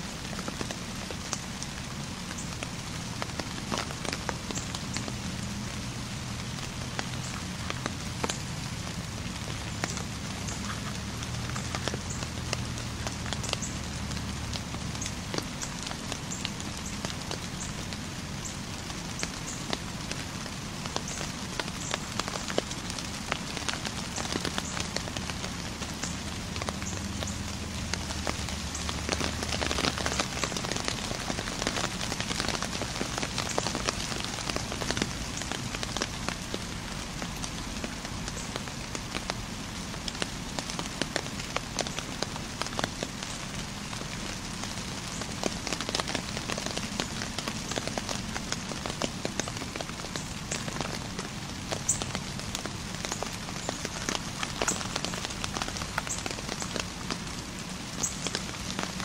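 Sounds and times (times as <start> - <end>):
rain on leaves: 0.0 - 59.0.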